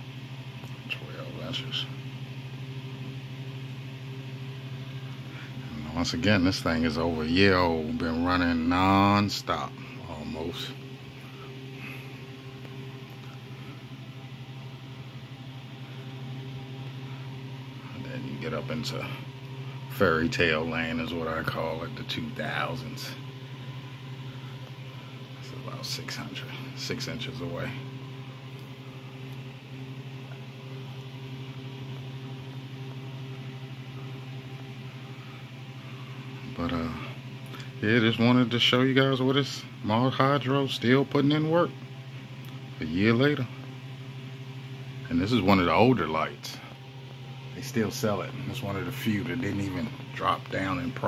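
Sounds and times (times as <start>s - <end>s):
low machine hum: 0.0s - 51.0s.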